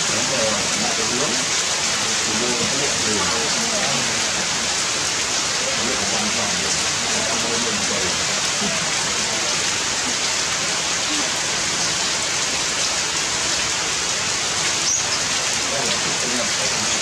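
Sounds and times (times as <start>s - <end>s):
rain on leaves: 0.0s - 17.0s.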